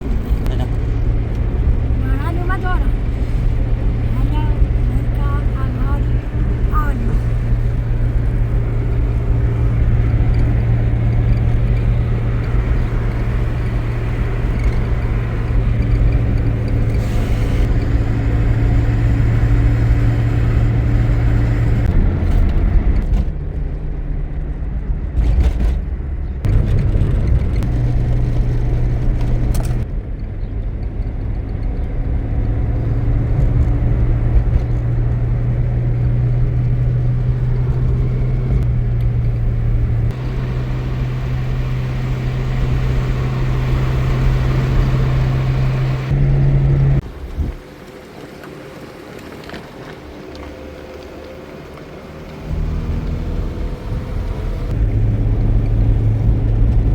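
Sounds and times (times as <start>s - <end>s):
engine humming: 0.0s - 56.9s.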